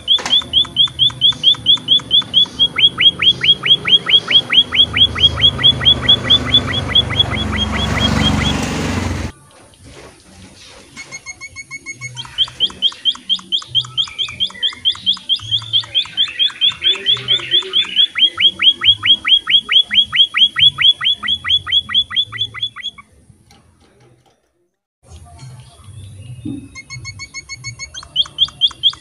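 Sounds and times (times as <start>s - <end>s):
finch singing: 0.0s - 9.3s, 10.9s - 23.2s, 25.5s - 29.0s.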